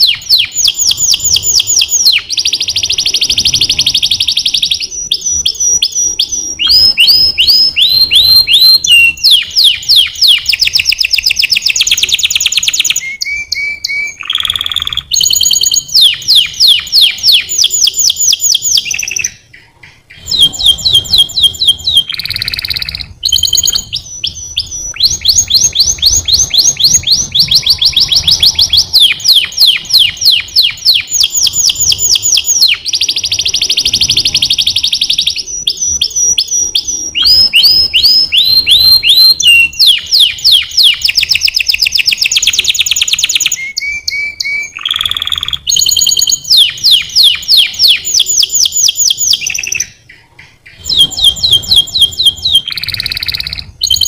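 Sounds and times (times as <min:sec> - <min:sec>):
canary singing rapid trills: 0:00.0 - 0:54.0.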